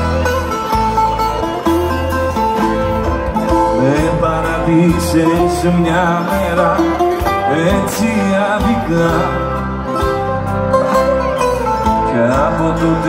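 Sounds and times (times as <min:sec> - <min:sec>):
live band playing popular song: 0:00.0 - 0:13.0
plucked string lead: 0:00.0 - 0:13.0.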